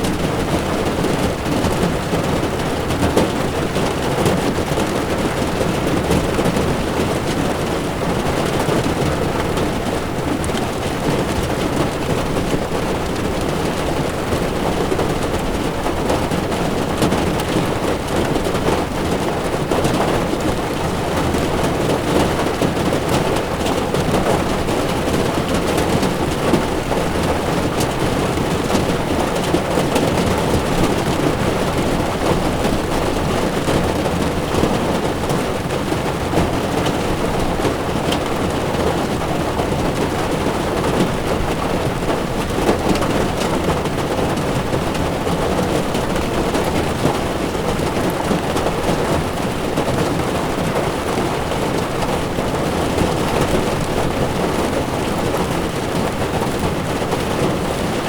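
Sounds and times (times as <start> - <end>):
heavy rain on car: 0.0 - 58.0.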